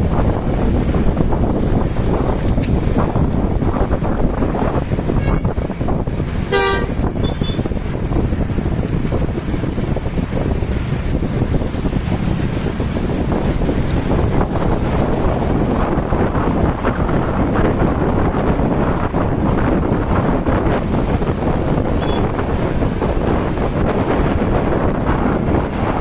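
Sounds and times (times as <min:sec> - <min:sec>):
bus engine rumble: 0:00.0 - 0:26.0
wind buffeting microphone: 0:00.0 - 0:26.0.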